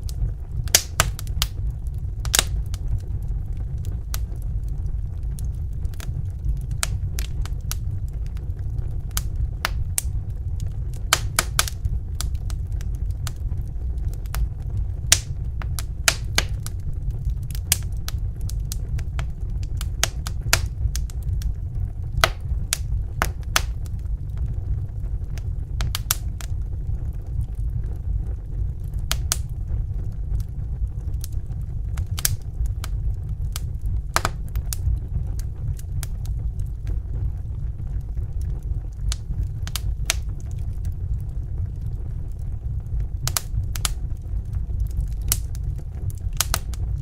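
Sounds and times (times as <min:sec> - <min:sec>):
fire pops and snaps: 0:00.0 - 0:47.0
low rumble of burning: 0:00.0 - 0:47.0.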